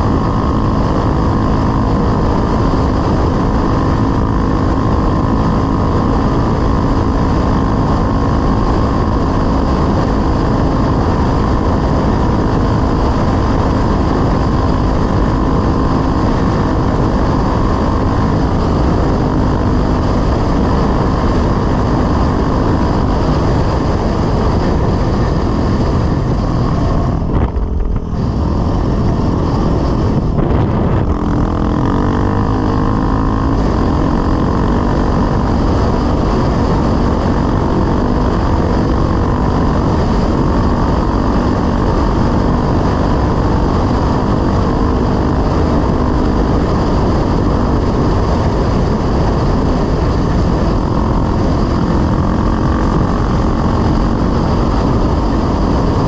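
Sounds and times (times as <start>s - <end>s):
dirt bike engine running hard: 0.0s - 56.0s
wind rush: 0.0s - 56.0s.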